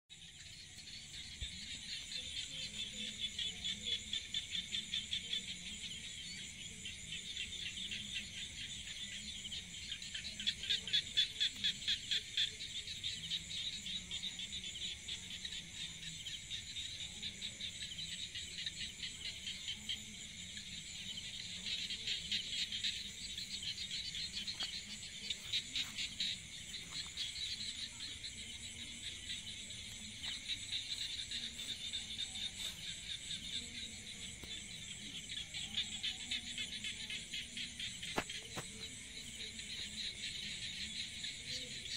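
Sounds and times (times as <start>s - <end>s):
insects trilling: 0.1s - 41.9s.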